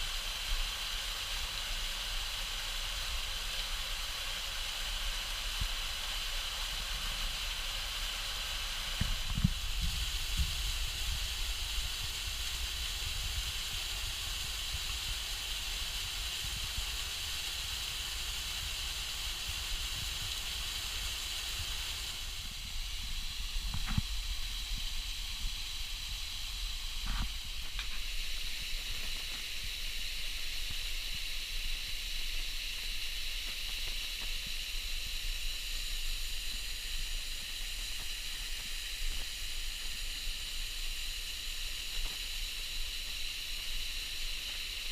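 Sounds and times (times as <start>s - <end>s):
water pouring over waterfall: 0.0s - 44.9s.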